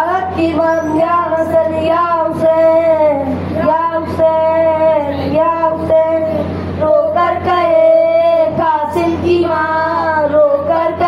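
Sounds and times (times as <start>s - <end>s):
boy singing a lament: 0.0s - 11.0s.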